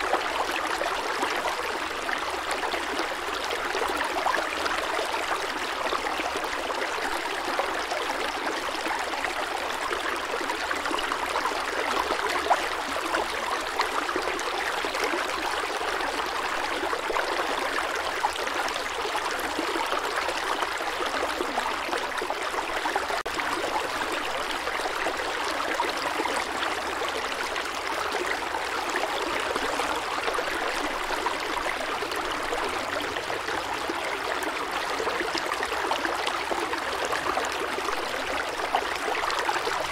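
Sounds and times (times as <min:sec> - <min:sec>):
steady rushing water: 0:00.0 - 0:39.9.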